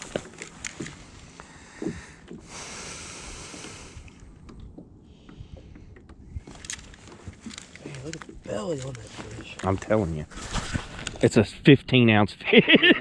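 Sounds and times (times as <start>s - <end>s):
water lapping around kayak: 0.0s - 11.2s.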